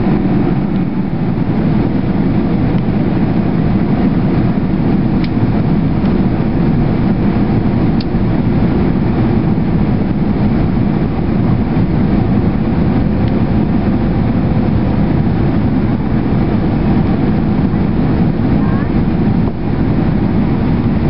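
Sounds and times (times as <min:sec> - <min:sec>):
jet engines rushing: 0:00.0 - 0:21.0.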